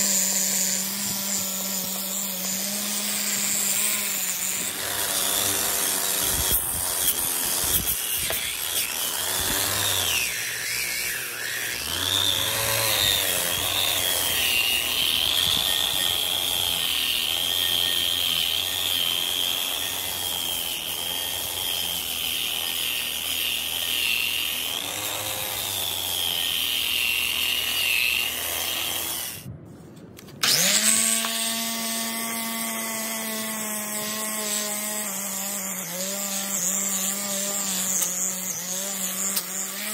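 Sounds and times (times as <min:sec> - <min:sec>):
angle grinder grinding metal: 0:00.0 - 0:29.5, 0:30.2 - 0:39.9.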